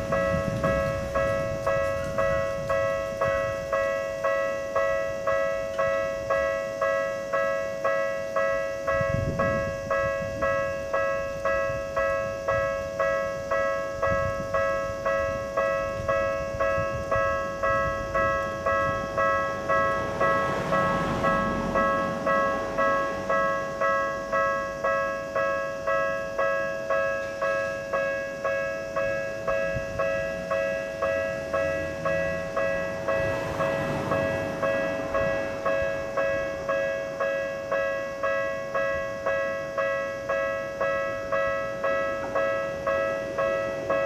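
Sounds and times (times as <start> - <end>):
crossing bell two-tone clang: 0.0 - 44.0.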